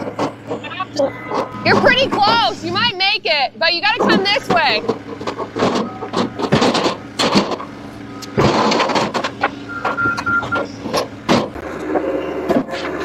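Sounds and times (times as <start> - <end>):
sharp knocks and clanks: 0.0 - 2.6, 3.8 - 13.0
vehicle engine running: 0.0 - 13.0.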